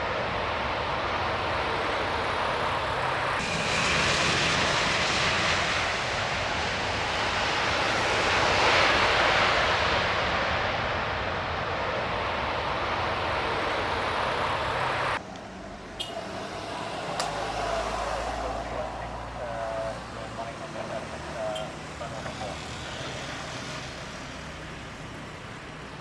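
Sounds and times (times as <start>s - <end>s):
jet engines rushing: 0.0s - 26.0s.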